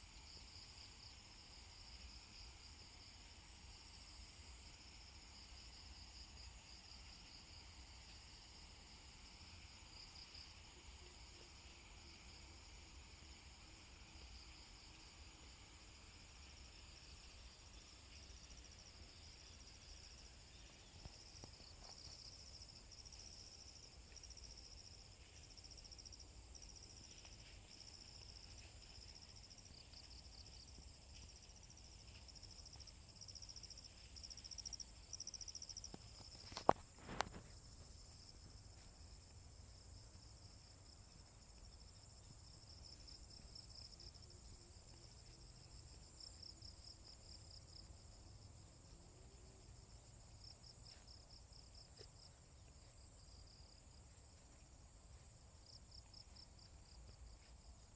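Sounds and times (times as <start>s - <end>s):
insects chirping in trills: 0.0s - 57.9s.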